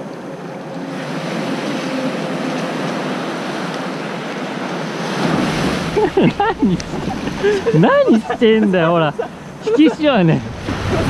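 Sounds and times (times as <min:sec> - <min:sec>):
surf washing over sand: 0:00.0 - 0:11.0.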